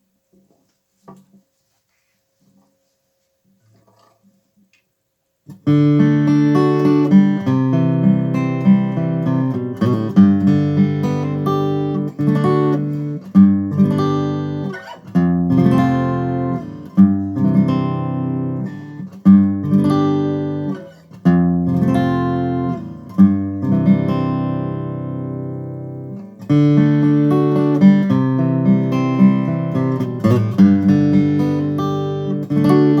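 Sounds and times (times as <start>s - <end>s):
acoustic guitar strummed chords: 5.5s - 33.0s.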